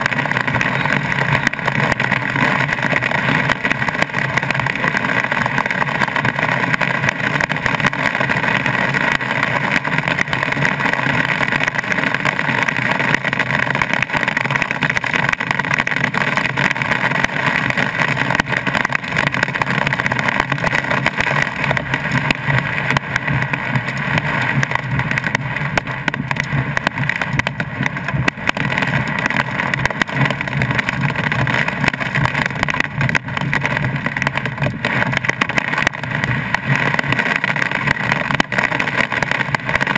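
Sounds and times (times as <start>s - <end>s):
rain and hail on car roof: 0.0s - 39.9s.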